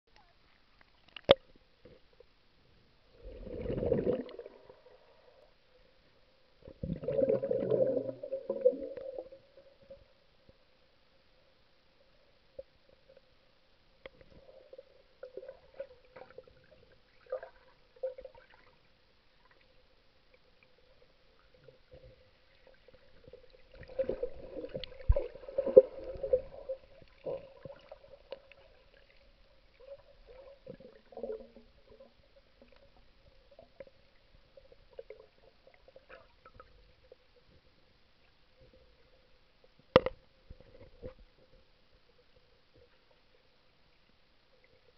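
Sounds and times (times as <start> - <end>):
faint steady hum: 0.1 - 44.9
gurgling and sloshing water: 2.9 - 10.4, 14.0 - 44.9.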